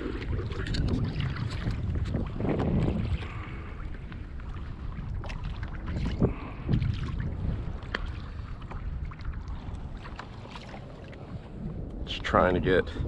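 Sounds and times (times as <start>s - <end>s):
water lapping against hull: 0.0s - 13.0s
wind buffeting microphone: 0.0s - 13.0s.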